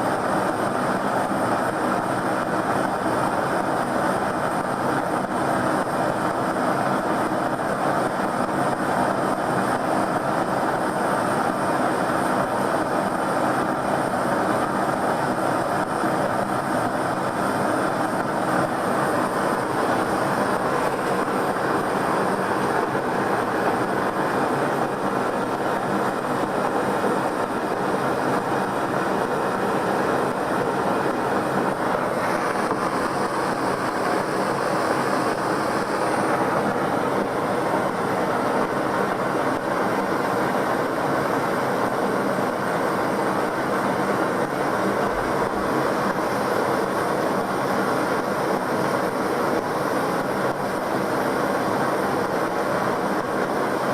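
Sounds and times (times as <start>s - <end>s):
gas burner flame rushing: 7.3s - 52.4s.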